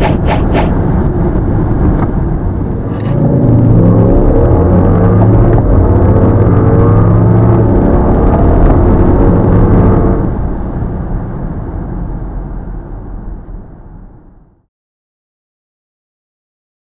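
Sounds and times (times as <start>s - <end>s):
diesel engine under full throttle: 0.0s - 14.5s
road and wind noise: 0.0s - 14.7s.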